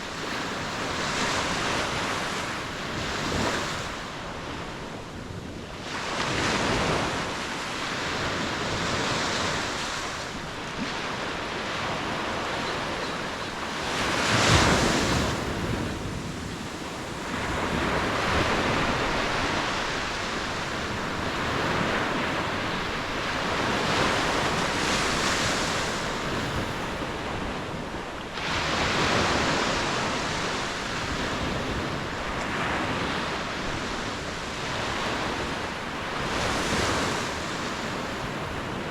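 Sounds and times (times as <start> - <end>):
ocean waves breaking on shore: 0.0 - 38.9
wind buffeting microphone: 0.0 - 38.9.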